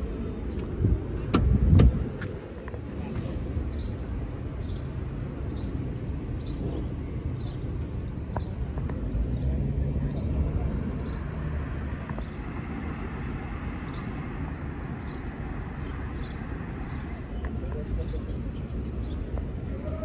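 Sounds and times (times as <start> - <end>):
city street rumble: 0.0 - 20.0.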